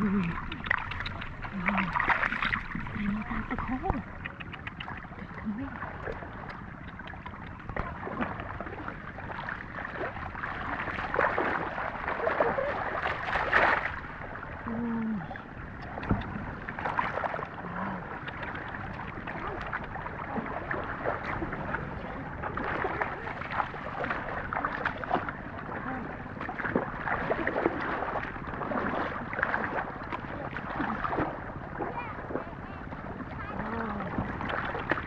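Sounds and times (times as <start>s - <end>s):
water splashing and sloshing: 0.0s - 35.0s.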